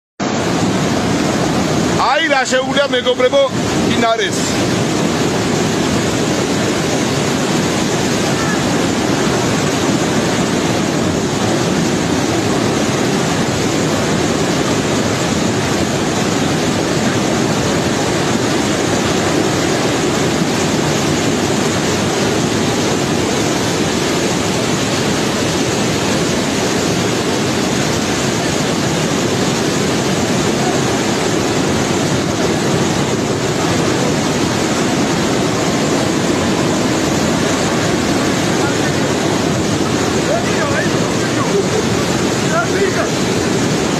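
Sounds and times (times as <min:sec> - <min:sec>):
river water rushing: 0:00.2 - 0:43.9.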